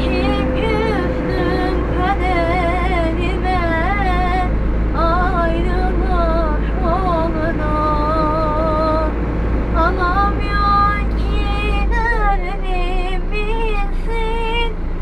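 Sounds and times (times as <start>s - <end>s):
woman singing in a high voice: 0.0s - 9.1s, 9.8s - 14.8s
bus engine drone: 0.0s - 15.0s.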